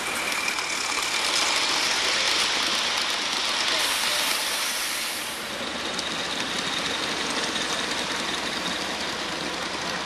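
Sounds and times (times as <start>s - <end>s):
model steam train hissing: 0.0s - 10.0s
wheels clicking on track: 0.0s - 10.0s.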